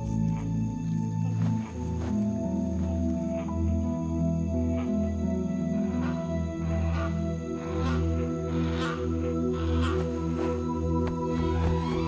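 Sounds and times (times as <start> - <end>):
music of sustained chords: 0.0 - 12.0.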